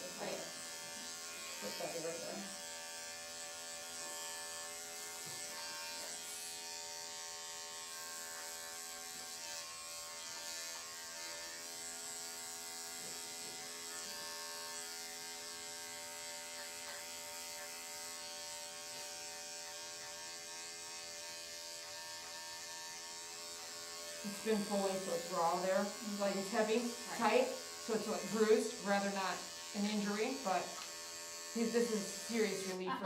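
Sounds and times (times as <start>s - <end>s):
electric clippers humming: 0.0s - 33.0s.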